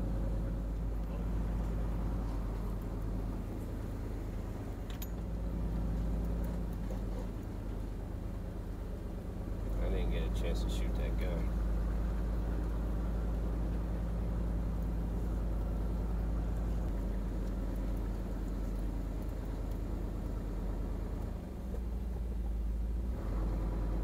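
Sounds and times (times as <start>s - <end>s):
truck driving on dirt road: 0.0s - 24.0s.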